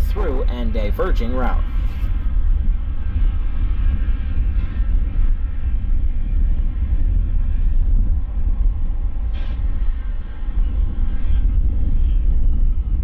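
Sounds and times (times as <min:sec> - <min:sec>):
rail grinder rumbling: 0:00.0 - 0:12.9
faint engine whine: 0:00.0 - 0:13.0.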